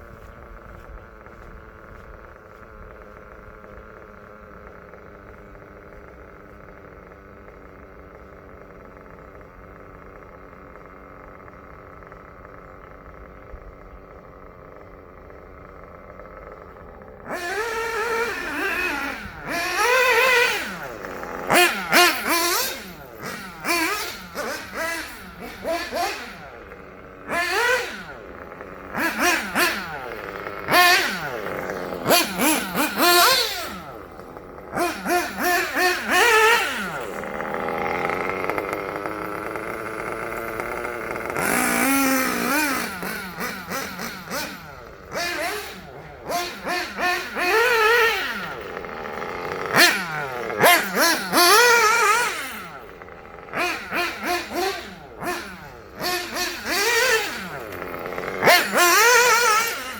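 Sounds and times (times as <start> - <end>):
model buggy engine revving: 0.0 - 59.9.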